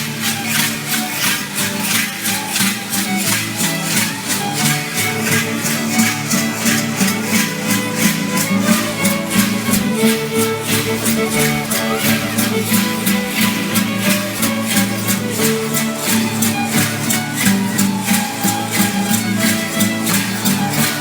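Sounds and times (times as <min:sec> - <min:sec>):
fiddle dance music: 0:00.0 - 0:21.0
strummed guitar: 0:00.0 - 0:21.0.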